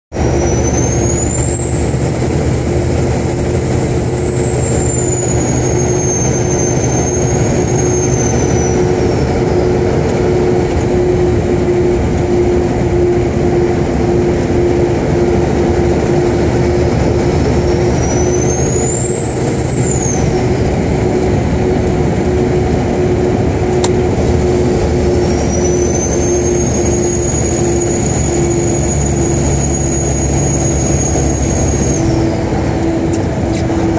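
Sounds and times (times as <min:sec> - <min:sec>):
diesel engine drone: 0:00.1 - 0:33.9
turbocharger whistling: 0:00.1 - 0:33.9.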